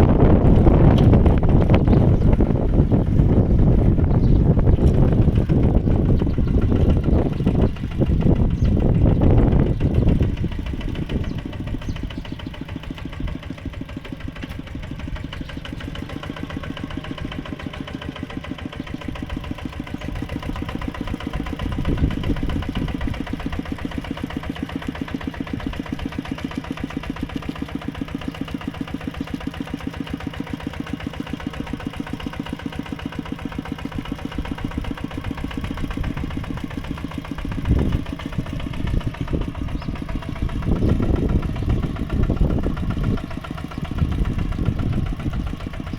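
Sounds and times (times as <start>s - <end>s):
tractor engine chugging: 0.0s - 45.9s.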